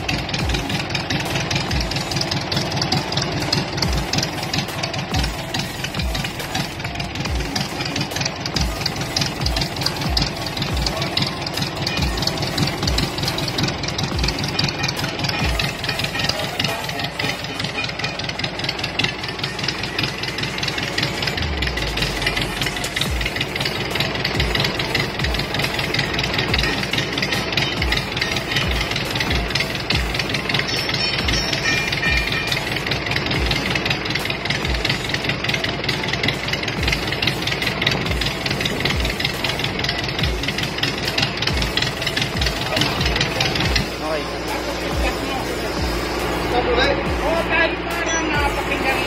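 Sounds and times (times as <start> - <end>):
diesel engine clattering at idle: 0.0 - 49.0.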